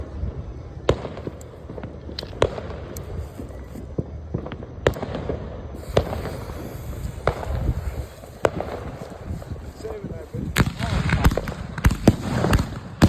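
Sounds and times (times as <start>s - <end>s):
fireworks bangs: 0.8s - 13.0s
small fireworks pops: 0.8s - 13.0s.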